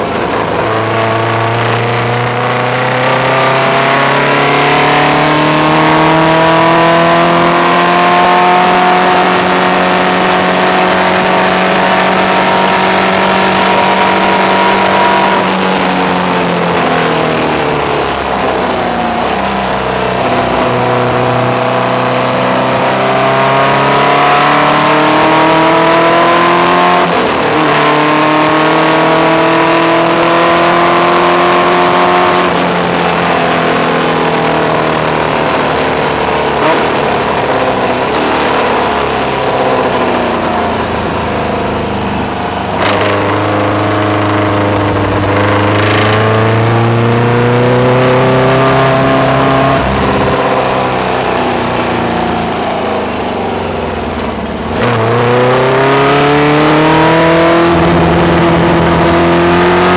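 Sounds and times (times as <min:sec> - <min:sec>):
race car engine revving: 0:00.0 - 0:59.9
wind and road rush: 0:00.0 - 0:59.9.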